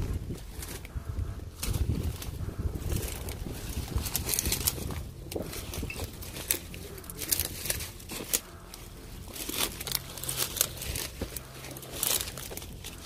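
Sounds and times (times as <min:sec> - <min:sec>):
footsteps through dry leaves: 0:00.0 - 0:13.0.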